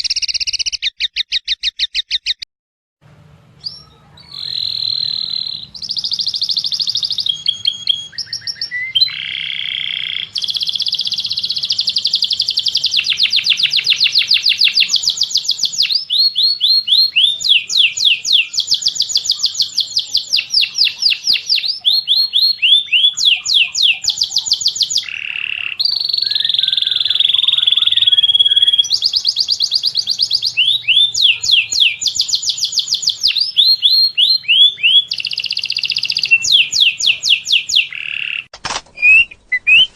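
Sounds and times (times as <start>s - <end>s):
songbird trilling: 0.0s - 2.4s, 3.6s - 39.9s.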